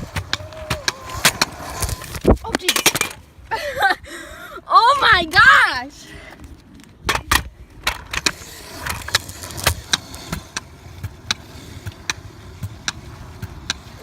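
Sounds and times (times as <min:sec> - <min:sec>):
scooter wheels rumbling on pavement: 0:00.0 - 0:14.0.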